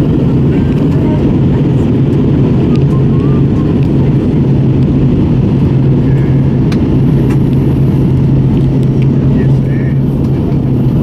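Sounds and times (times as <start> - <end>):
aircraft cabin engine rush: 0.0 - 11.0
constant low hum: 0.0 - 11.0.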